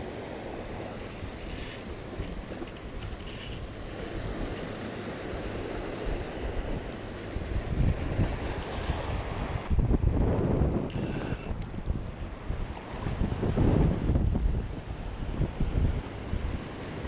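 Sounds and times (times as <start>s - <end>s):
ocean surf washing over rocks: 0.0s - 17.0s
wind buffeting the microphone: 0.0s - 17.0s.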